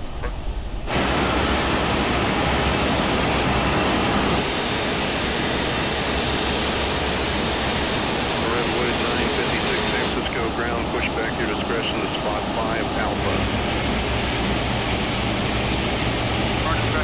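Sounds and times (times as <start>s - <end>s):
loud rushing noise: 0.0s - 11.8s, 12.4s - 17.0s.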